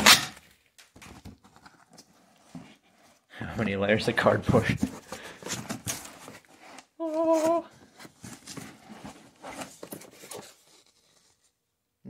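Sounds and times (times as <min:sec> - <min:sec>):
cardboard and paper rustling: 0:00.8 - 0:11.6.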